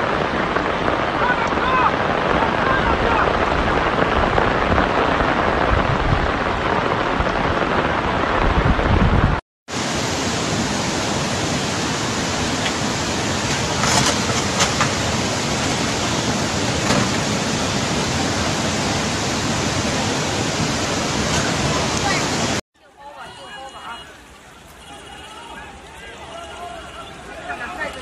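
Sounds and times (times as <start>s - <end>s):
heavy rain: 0.0s - 28.0s
rushing floodwater: 0.0s - 28.0s.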